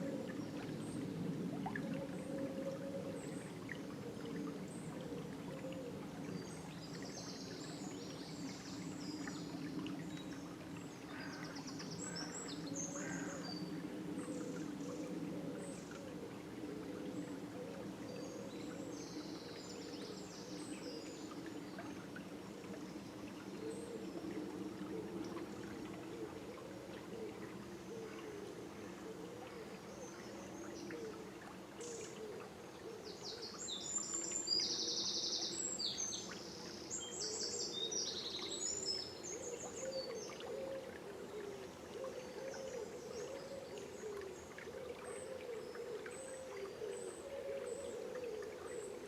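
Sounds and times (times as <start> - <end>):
river water flowing: 0.0 - 49.0.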